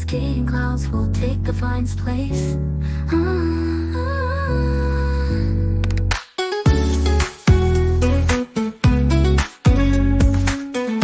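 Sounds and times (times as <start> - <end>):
instrumental pop music: 0.0 - 11.0.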